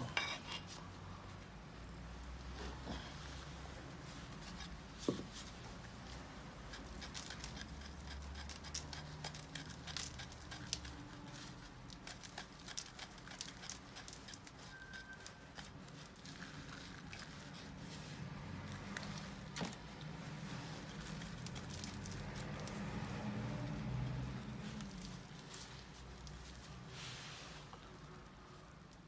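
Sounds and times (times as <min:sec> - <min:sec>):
root hook scratching soil: 0:04.2 - 0:27.8.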